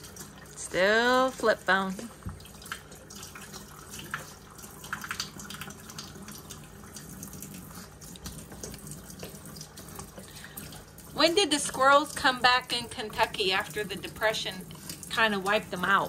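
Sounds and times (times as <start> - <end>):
faucet running into sink: 0.0 - 16.0
hands rinsing meat: 0.0 - 16.0
small splashes and clicks: 0.0 - 16.0.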